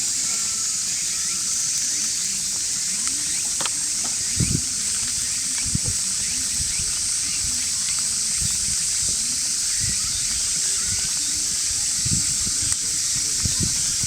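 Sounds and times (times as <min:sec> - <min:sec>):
faint distant voices: 0:00.0 - 0:14.0
high-pitched hiss: 0:00.0 - 0:14.0.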